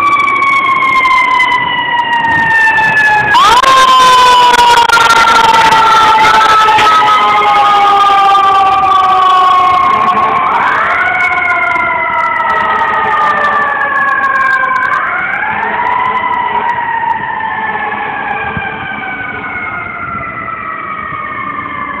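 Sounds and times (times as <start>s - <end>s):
fire truck siren wailing: 0.0s - 22.0s.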